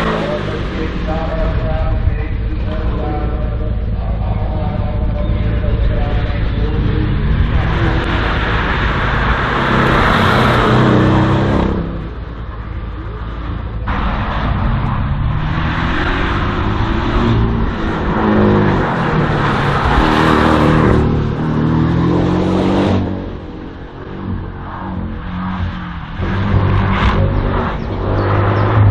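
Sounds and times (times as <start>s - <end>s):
race car engine revving: 0.0s - 28.9s.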